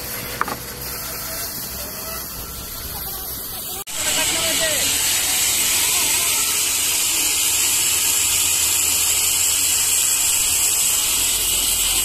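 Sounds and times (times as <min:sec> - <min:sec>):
high-pitched machinery hiss: 0:00.0 - 0:12.0
low motor hum: 0:00.0 - 0:12.0.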